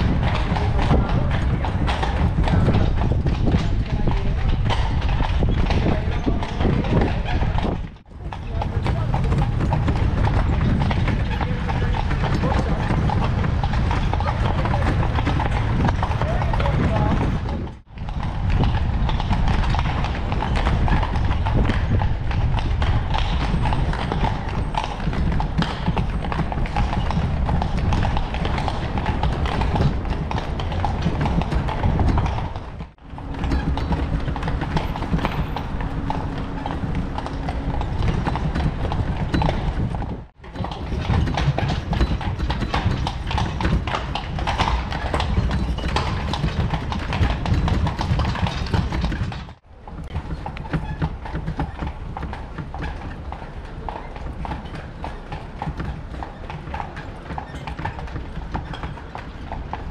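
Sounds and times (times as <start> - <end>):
carriage wheels rumbling: 0.0 - 59.9
horse hooves on cobblestones: 0.0 - 59.9.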